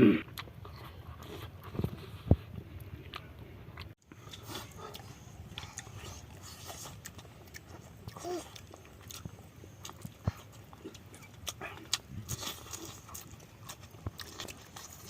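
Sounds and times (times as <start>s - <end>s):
chewing: 0.3s - 15.0s.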